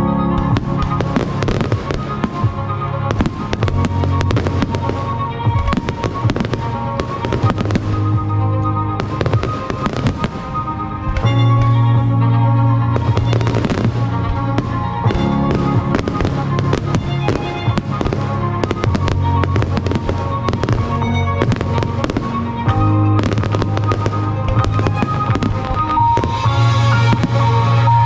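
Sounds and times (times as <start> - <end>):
fireworks bangs and crackles: 0.0 - 28.0
music with heavy bass: 0.0 - 28.0.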